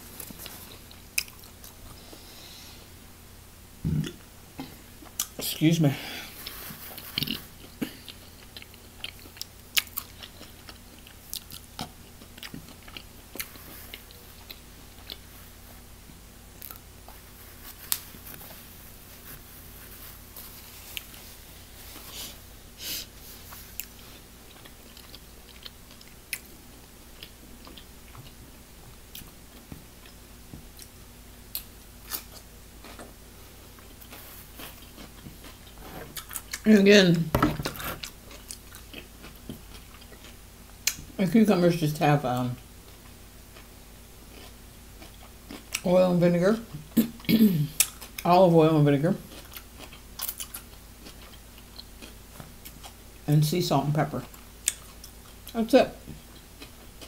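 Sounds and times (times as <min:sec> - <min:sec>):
person chewing and crunching food: 0:00.0 - 0:02.8, 0:03.8 - 0:05.5, 0:06.1 - 0:41.2, 0:42.2 - 0:57.0.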